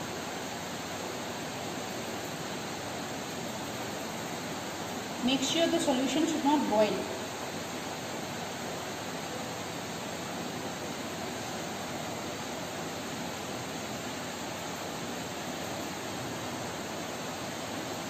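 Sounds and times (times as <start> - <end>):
room noise hiss: 0.0 - 18.0.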